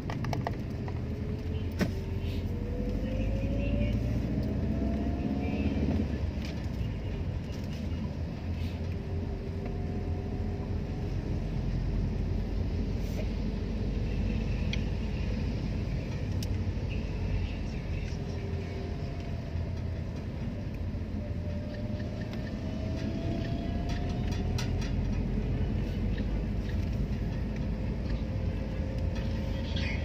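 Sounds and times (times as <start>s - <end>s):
car interior road rumble: 0.0s - 30.0s.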